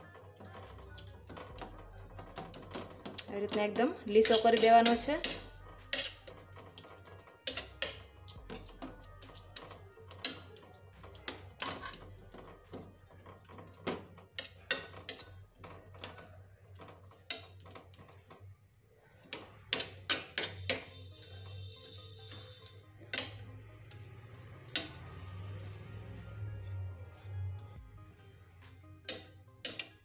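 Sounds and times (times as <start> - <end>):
metal spatula scraping steel plate: 0.0 - 18.4, 19.0 - 30.0.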